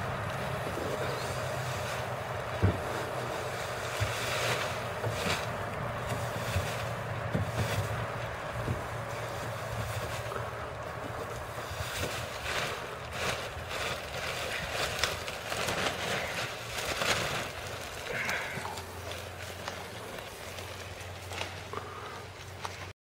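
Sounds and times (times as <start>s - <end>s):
mower engine idling: 0.0s - 22.9s
short crackling noises: 0.0s - 22.9s.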